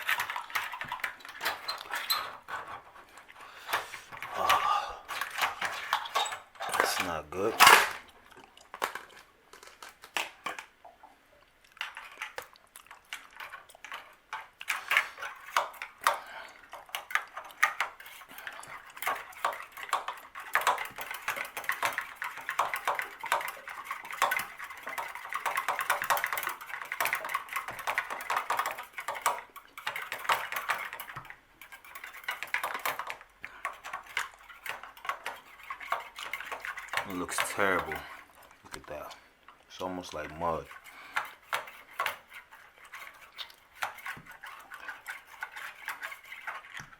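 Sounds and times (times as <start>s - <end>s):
wire clicking and scraping in valve: 0.0s - 4.3s, 5.0s - 10.7s, 11.8s - 46.9s.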